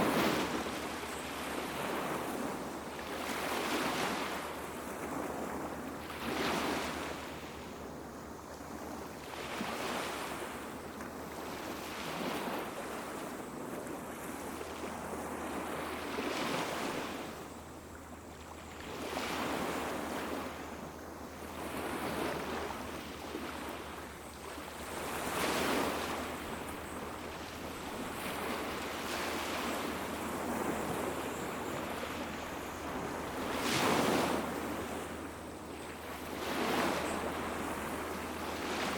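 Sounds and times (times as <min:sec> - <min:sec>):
small waves breaking on beach: 0:00.0 - 0:38.9
steady background surf: 0:00.0 - 0:38.9.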